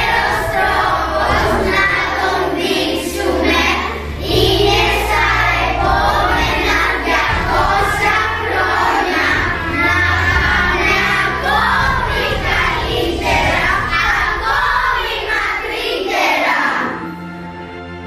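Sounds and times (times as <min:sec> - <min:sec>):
children singing together: 0:00.0 - 0:17.4.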